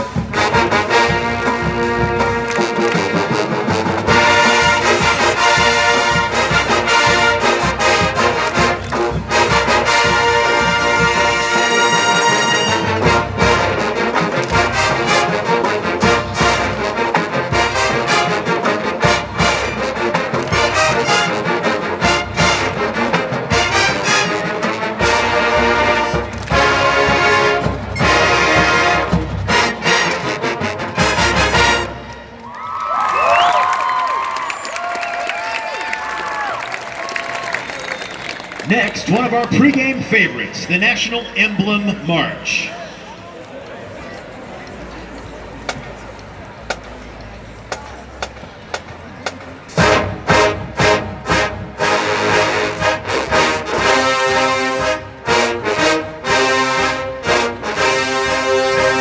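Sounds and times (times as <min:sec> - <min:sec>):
marching band brass: 0:00.0 - 0:43.4, 0:44.7 - 0:59.0.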